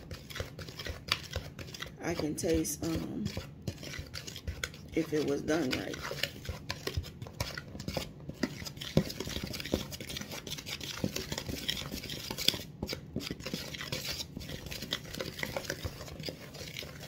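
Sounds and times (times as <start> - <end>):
whisk clicking against bowl: 0.0 - 17.0
whisk scraping plastic bowl: 0.0 - 17.0.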